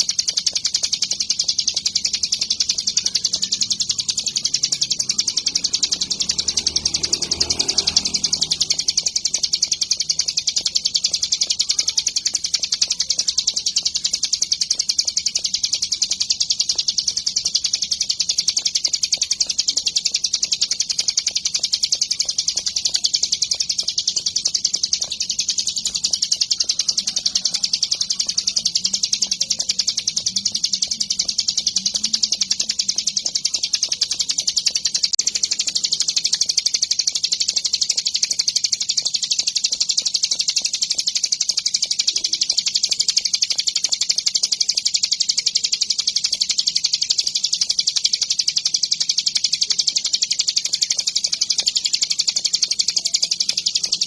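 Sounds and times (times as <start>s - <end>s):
bird singing rapid chattering song: 0.0s - 54.0s.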